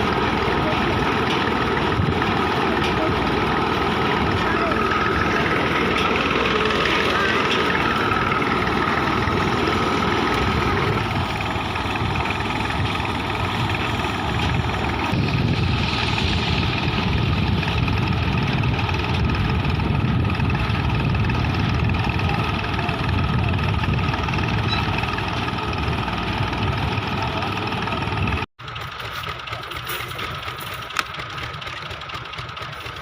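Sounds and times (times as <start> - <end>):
boring rig engine running: 0.0 - 33.0.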